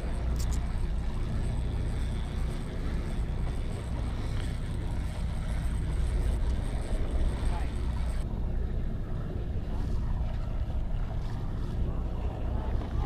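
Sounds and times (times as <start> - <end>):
boat engine rumbling: 0.0 - 13.0
wind on microphone: 0.0 - 13.0.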